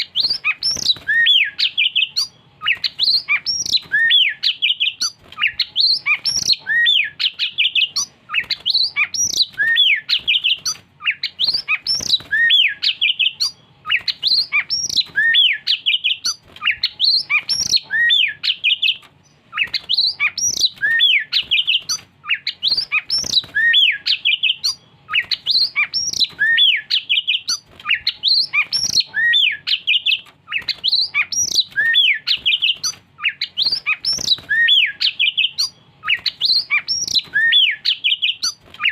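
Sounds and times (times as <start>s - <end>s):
songbird whistling: 0.0s - 38.9s.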